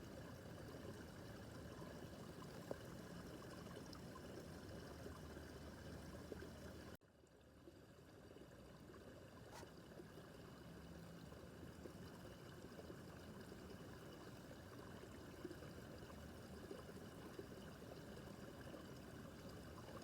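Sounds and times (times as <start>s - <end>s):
babbling brook: 0.1s - 6.9s, 7.5s - 20.0s.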